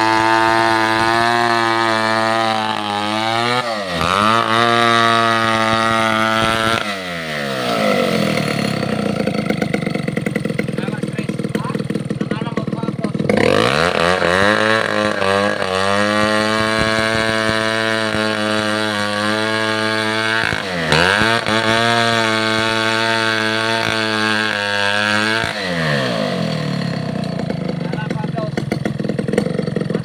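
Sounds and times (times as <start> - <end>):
chainsaw engine revving: 0.0 - 30.0.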